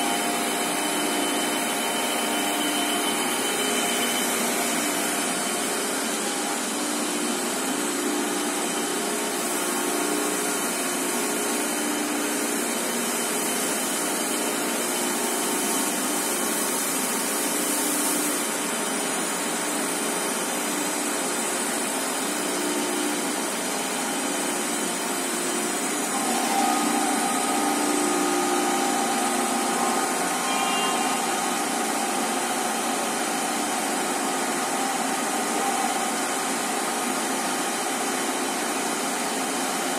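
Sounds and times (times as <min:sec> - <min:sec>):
steady machine tones: 0:00.0 - 0:19.4, 0:21.7 - 0:36.2.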